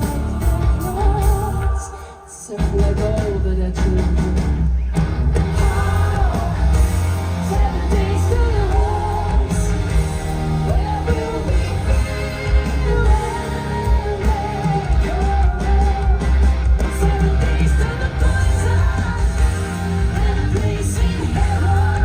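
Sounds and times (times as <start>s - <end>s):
woman singing: 0.0s - 4.2s, 5.6s - 22.0s
heavy rock band playing: 0.0s - 22.0s.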